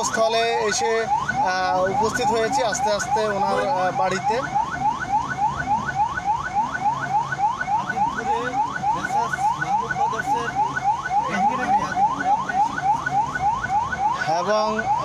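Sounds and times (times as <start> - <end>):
ambulance siren yelping: 0.0 - 15.0.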